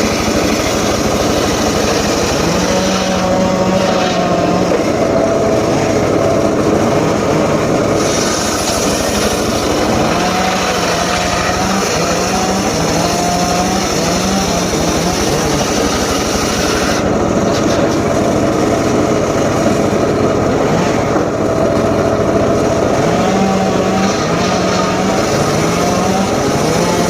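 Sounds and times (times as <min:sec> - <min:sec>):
small engine-powered saw running: 0:00.0 - 0:27.0.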